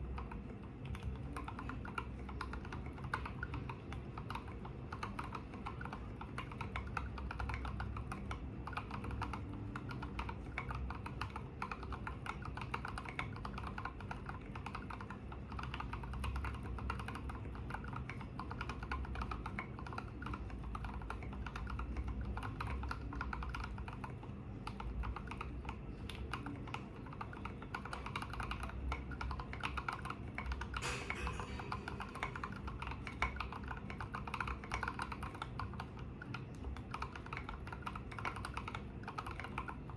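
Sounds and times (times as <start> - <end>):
mechanical keyboard typing: 0.2 - 39.9.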